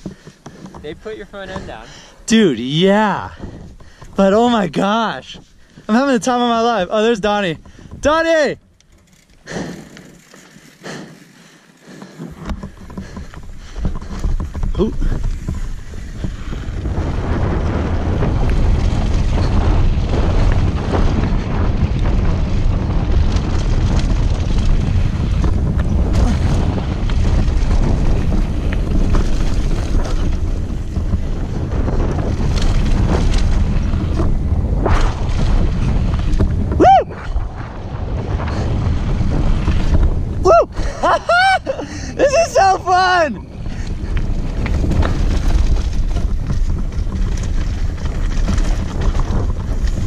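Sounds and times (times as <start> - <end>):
wind buffeting microphone: 0.0 - 11.0, 11.8 - 50.0
tyres rumbling over dirt: 0.0 - 50.0.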